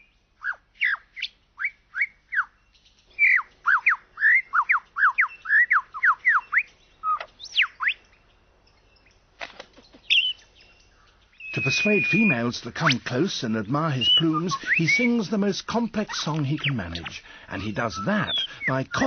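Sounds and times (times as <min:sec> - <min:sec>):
lyrebird whistling song: 0:00.0 - 0:19.0.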